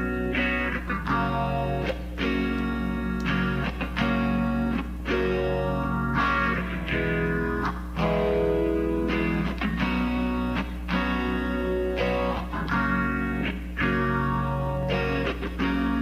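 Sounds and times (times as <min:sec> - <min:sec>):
guitar strumming chords: 0:00.0 - 0:16.0
steady low hum: 0:00.0 - 0:16.0.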